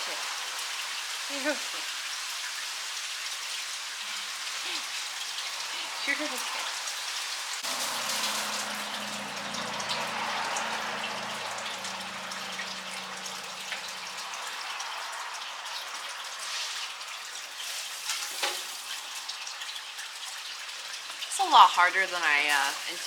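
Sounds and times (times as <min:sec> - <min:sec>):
rain-like hiss: 0:00.0 - 0:23.0.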